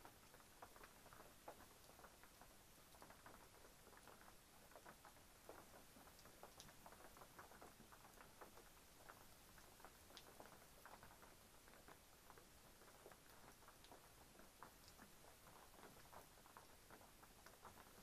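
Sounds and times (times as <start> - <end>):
low hiss: 0.0 - 18.0
raindrops pattering: 0.0 - 18.0.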